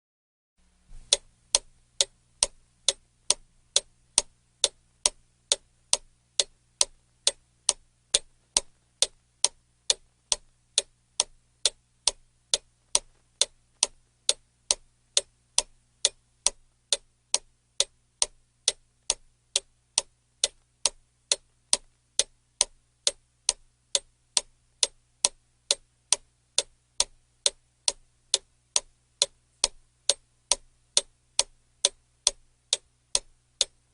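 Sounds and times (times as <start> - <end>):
clock ticking: 1.0 - 33.9.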